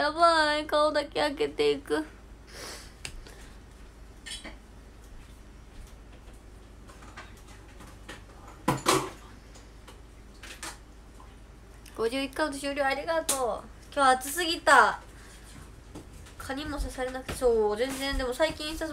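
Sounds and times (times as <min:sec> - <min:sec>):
low room hum: 0:00.0 - 0:18.9.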